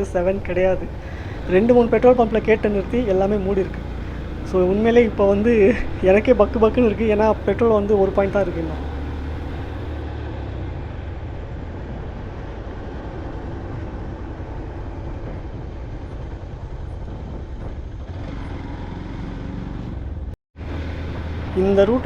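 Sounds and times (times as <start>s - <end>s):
motorcycle engine drone: 0.0s - 22.0s
road and wind noise: 0.0s - 22.0s.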